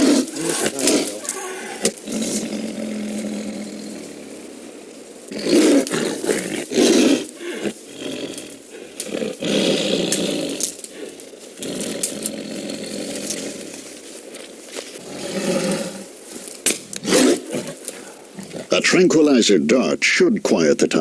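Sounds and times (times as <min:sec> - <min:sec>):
tiger roaring: 0:00.0 - 0:18.9.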